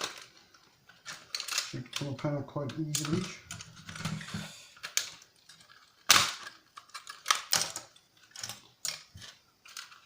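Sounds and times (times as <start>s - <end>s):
plastic casing cracking and snapping: 0.0s - 4.1s, 4.8s - 10.0s.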